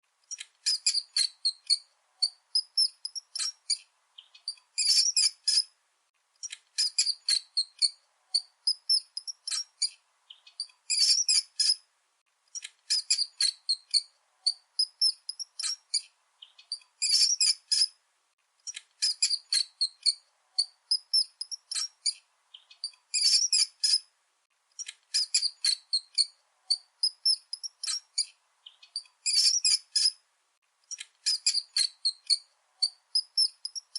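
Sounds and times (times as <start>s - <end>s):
mice squeaking: 0.3s - 5.7s, 6.4s - 11.8s, 12.6s - 18.0s, 18.7s - 24.1s, 24.8s - 30.2s, 30.9s - 33.9s.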